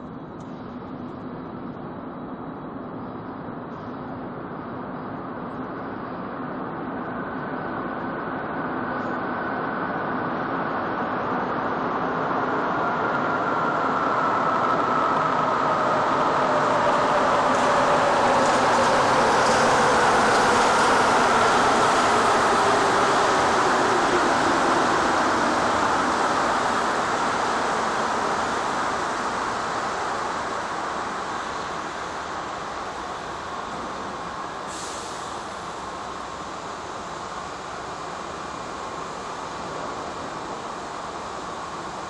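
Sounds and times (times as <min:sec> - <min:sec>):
metro train rolling and braking: 0:00.0 - 0:42.0.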